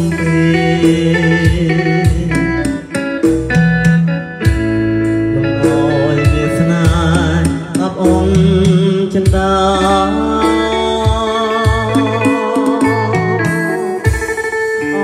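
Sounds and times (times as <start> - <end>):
deep bass notes: 0.0 - 15.0
wavering lead melody: 0.0 - 15.0.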